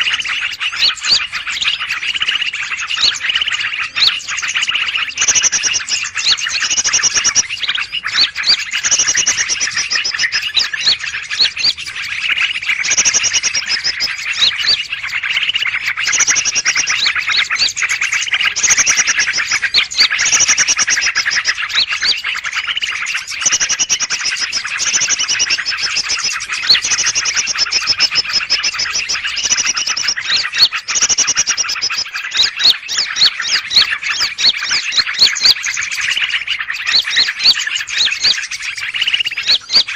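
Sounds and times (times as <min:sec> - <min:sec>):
high whistled bird phrases: 0:00.0 - 0:39.9
small birds chirping: 0:00.0 - 0:39.9.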